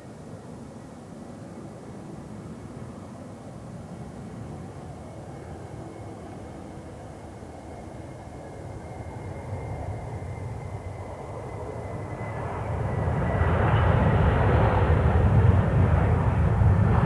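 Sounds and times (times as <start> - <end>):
airliner engines rumbling: 0.0 - 17.0
faint high whine: 0.0 - 17.0.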